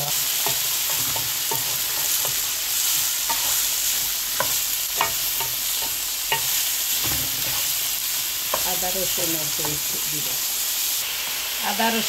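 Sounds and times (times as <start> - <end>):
sizzling in hot oil: 0.0 - 12.0.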